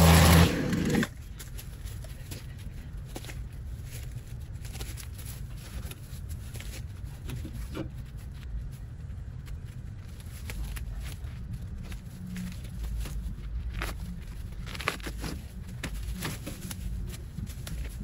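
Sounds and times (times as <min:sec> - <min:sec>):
dry leaves rustling and crackling: 0:00.0 - 0:18.0
low steady rumble: 0:00.0 - 0:18.0.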